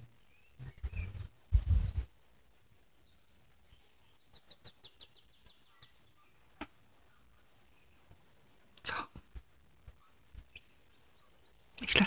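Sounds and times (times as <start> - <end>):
small bird chirping: 0.0 - 9.1, 9.8 - 12.0.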